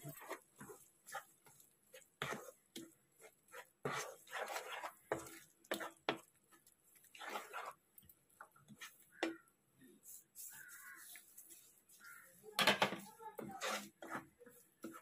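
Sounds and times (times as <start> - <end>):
spoon scraping pan: 0.0 - 15.0.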